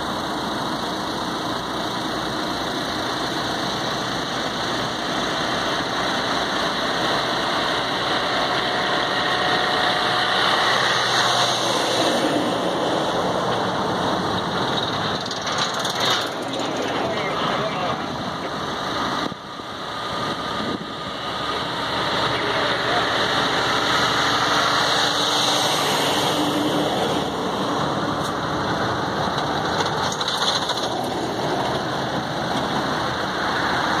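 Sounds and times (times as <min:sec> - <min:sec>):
trucks passing: 0:00.0 - 0:34.0.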